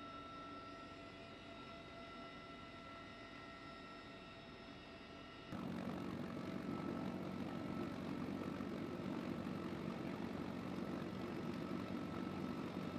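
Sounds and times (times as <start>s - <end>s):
helicopter engine and rotor rumble: 0.0s - 12.9s
thin steady whine: 0.0s - 12.9s.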